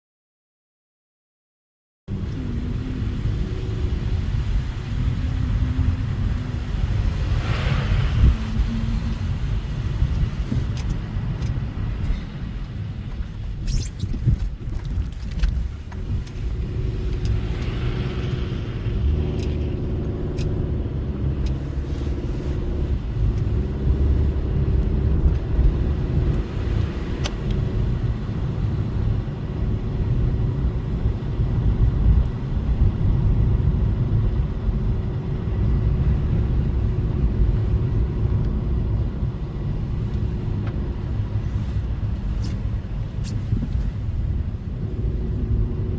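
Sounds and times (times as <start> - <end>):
car engine and tyres rumbling: 2.1 - 45.9.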